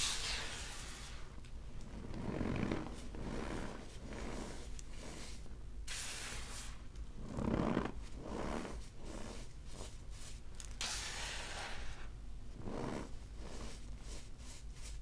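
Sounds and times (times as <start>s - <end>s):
hiss of rubbed powder: 0.0s - 1.4s, 2.2s - 6.9s, 7.5s - 15.0s.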